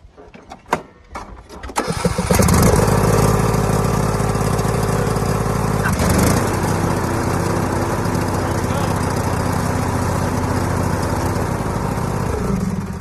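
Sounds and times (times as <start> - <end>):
lawn tractor engine running: 1.7 - 13.0.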